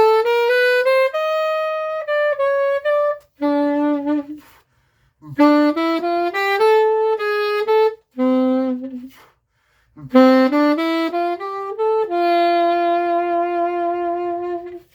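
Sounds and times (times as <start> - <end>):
alto saxophone slow melody: 0.0 - 14.9.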